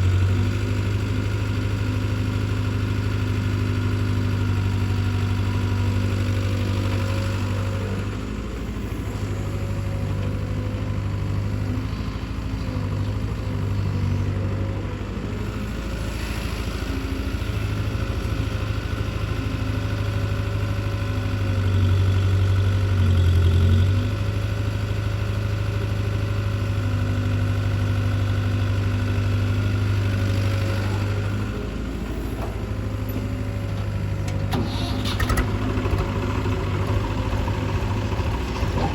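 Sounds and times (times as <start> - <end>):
heavy diesel engine idling: 0.0 - 38.9.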